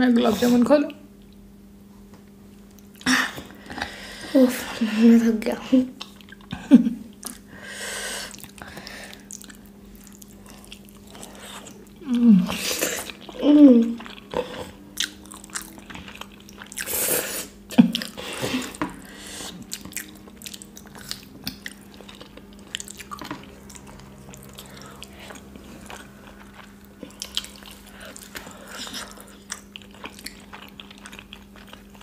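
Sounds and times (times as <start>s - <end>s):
faint steady hum: 0.0s - 32.0s
people chewing food: 2.5s - 4.8s, 5.9s - 32.0s.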